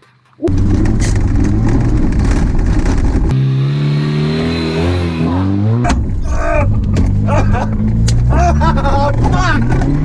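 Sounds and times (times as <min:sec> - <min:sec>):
car engine running: 0:00.5 - 0:10.0.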